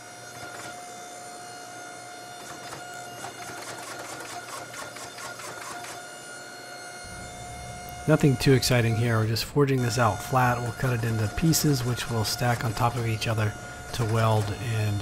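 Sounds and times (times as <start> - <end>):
hydraulic press whine: 0.0 - 15.0.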